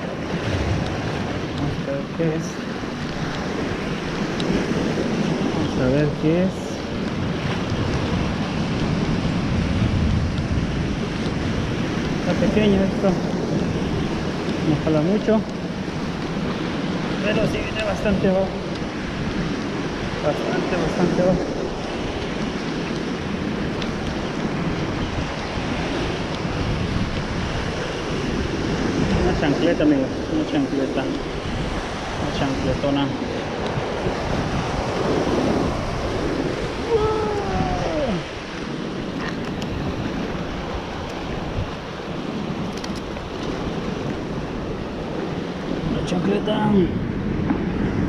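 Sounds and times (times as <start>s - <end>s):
surf breaking against rocks: 0.0s - 48.0s
wind buffeting microphone: 0.0s - 48.0s.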